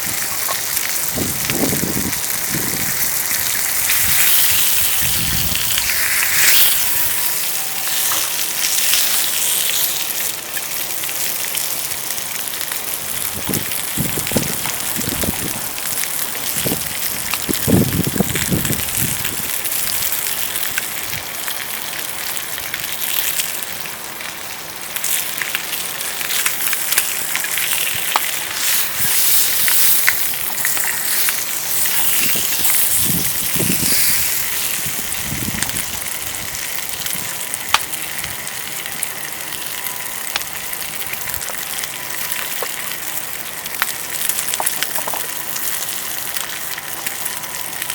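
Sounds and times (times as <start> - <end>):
sizzling over wood fire: 0.0 - 47.9.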